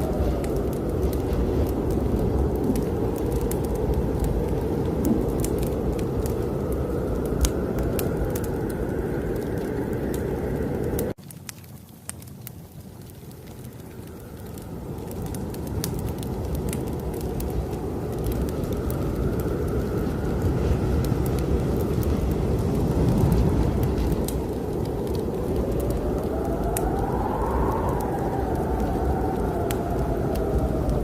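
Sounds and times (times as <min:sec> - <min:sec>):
wind gusting with whistling howl: 0:00.0 - 0:11.2, 0:12.7 - 0:31.0
wood fire crackling: 0:00.0 - 0:31.0.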